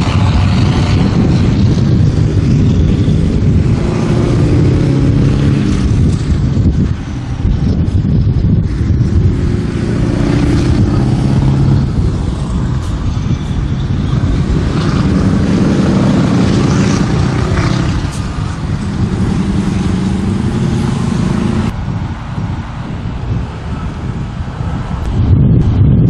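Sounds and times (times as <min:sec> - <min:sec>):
diesel trucks driving past: 0:00.0 - 0:25.8.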